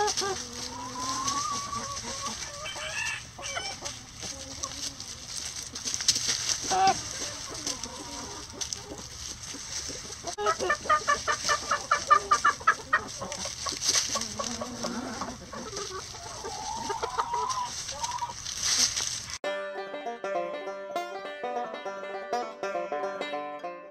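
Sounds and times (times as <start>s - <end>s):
hens clucking: 0.0s - 23.5s.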